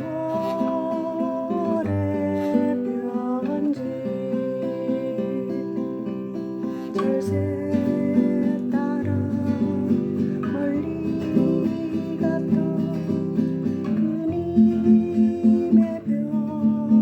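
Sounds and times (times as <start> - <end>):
acoustic guitar playing slow song: 0.0 - 17.0.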